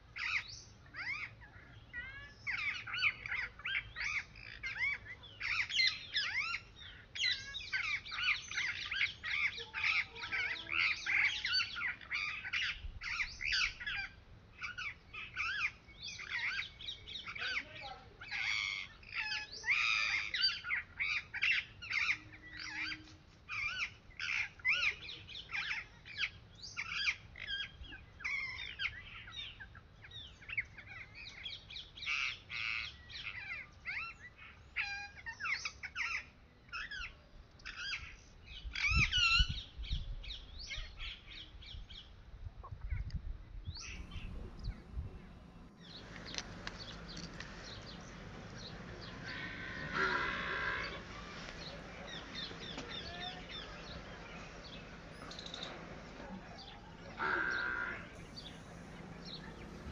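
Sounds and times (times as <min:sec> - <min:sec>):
birds calling and chirping: 0:00.0 - 0:42.2, 0:42.9 - 0:59.9.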